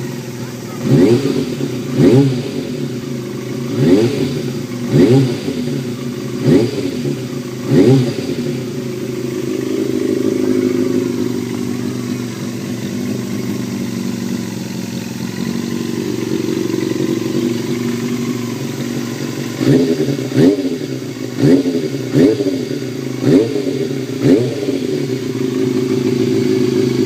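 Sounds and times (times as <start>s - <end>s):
motorcycle engine revving and idling: 0.0s - 27.0s.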